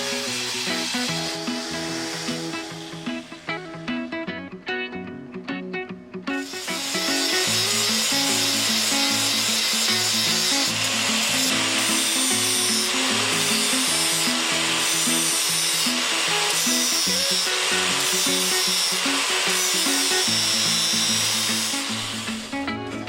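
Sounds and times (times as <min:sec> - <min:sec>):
tool grinding steel bar: 0:00.0 - 0:03.3, 0:06.4 - 0:22.5
background music: 0:00.0 - 0:23.0.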